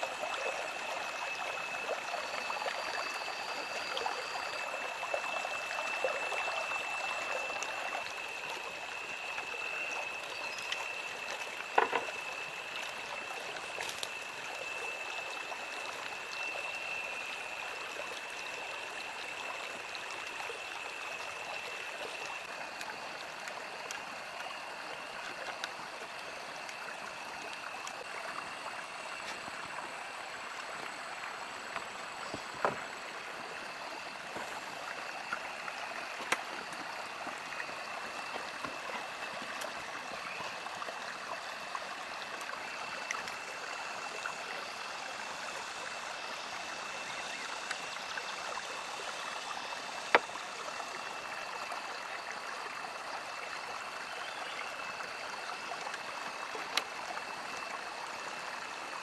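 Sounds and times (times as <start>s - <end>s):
faint high steady tone: 0.0s - 50.4s
flowing water: 0.0s - 59.0s.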